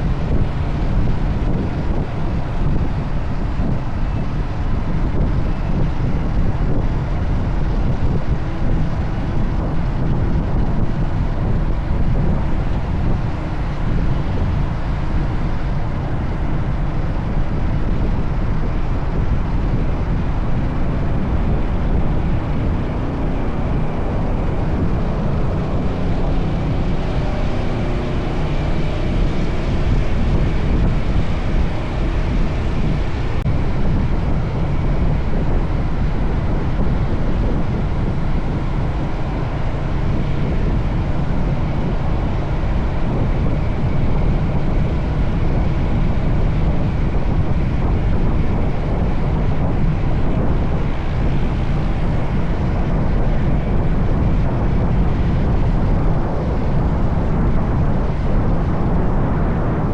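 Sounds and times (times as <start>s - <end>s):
motorcycle engine rumble: 0.0s - 59.9s
wind rushing: 0.0s - 59.9s.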